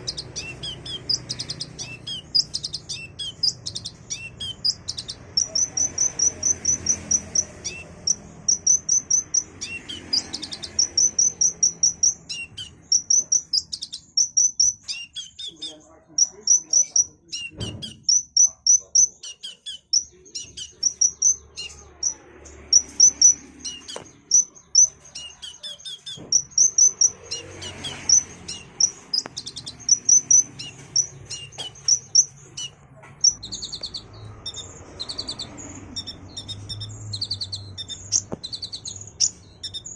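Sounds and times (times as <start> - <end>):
sunbird chirping song: 0.0 - 39.9.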